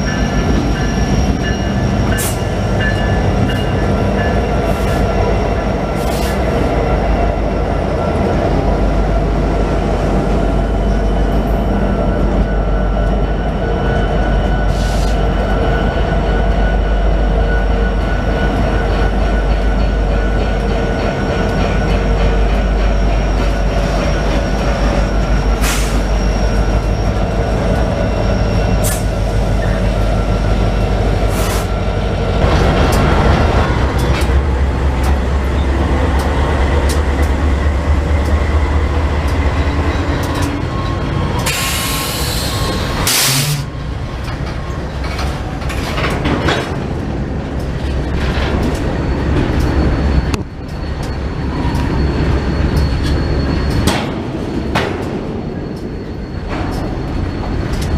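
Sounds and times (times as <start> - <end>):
steel wheels squealing: 0.0 - 6.7, 10.3 - 32.4, 33.6 - 57.9
diesel locomotive rumble: 0.0 - 57.9.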